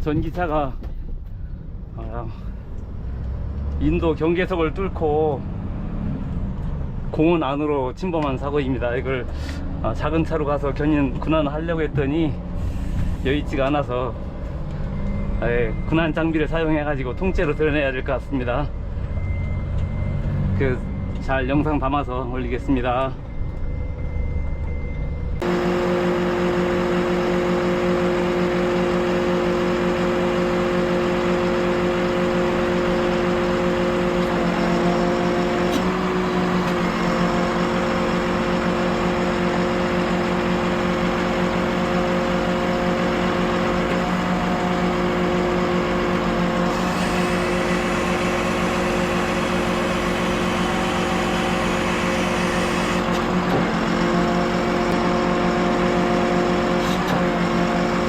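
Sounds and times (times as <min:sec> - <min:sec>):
heavy vehicle engine whining: 0:00.0 - 0:58.0.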